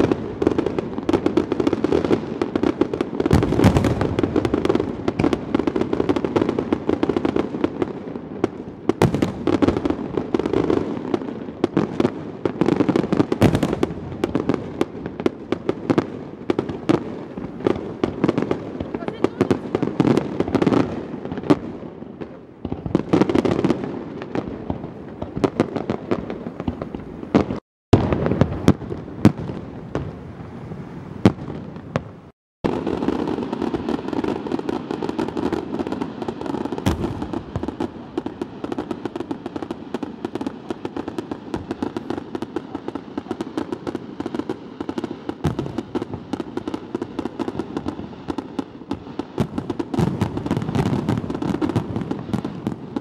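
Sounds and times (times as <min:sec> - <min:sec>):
firework crackling: 0:00.0 - 0:53.0.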